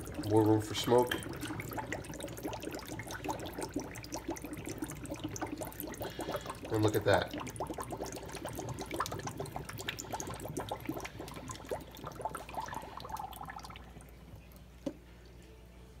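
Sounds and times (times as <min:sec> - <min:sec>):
sink drain gurgling: 0:00.0 - 0:15.0
small pops and bubbles: 0:01.1 - 0:15.0.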